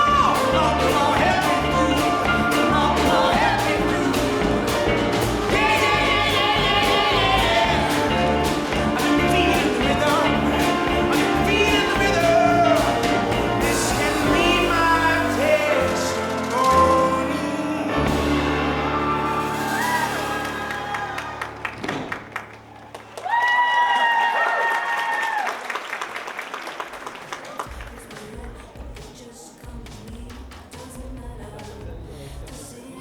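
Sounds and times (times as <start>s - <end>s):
pop song with singing: 0.0s - 21.1s, 27.7s - 33.0s.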